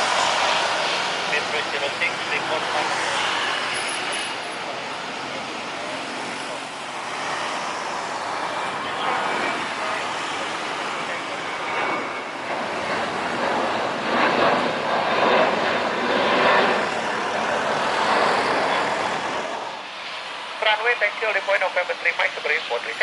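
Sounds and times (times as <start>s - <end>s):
jet airliner passing: 0.0s - 23.0s.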